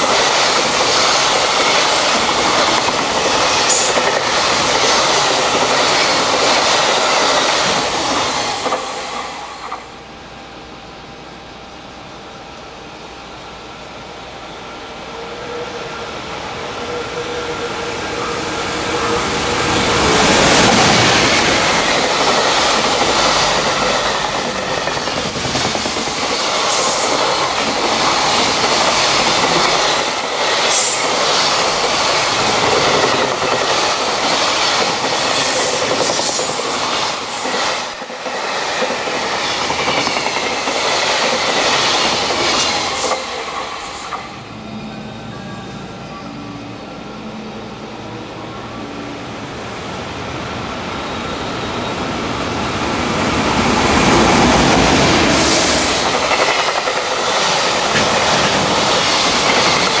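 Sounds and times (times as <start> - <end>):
electric locomotive hum: 0.0 - 60.0.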